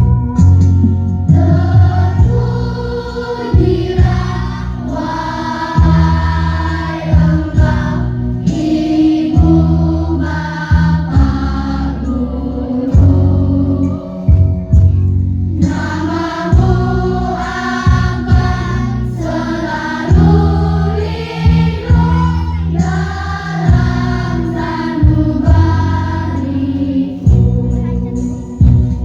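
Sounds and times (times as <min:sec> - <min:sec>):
instrumental accompaniment: 0:00.0 - 0:29.0
children's choir singing: 0:01.2 - 0:14.9, 0:15.5 - 0:28.8.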